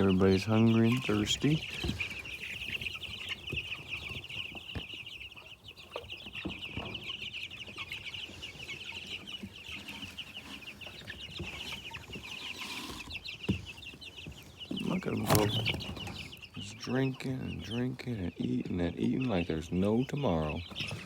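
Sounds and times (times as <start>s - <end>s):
chicks pecking at feed: 0.0s - 21.0s
chicks peeping: 0.0s - 21.0s.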